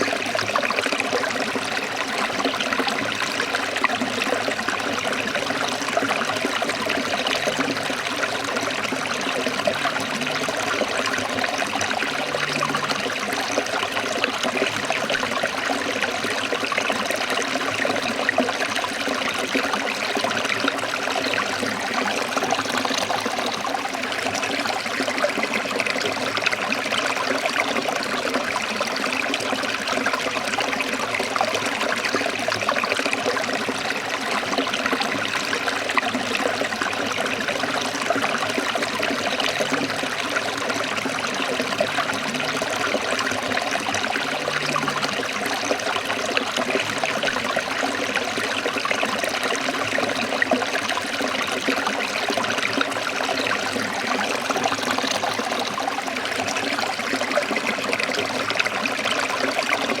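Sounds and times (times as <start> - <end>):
stream trickling and splashing: 0.0 - 60.0.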